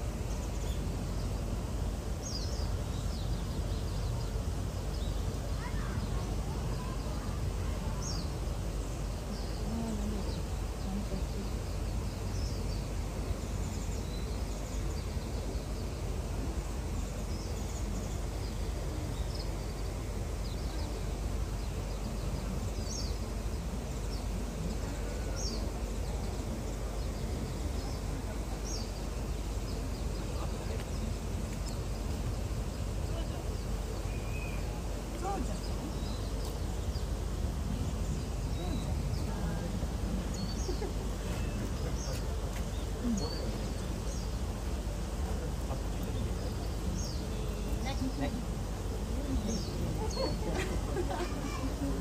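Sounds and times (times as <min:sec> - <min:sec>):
low outdoor background noise: 0:00.0 - 0:52.0.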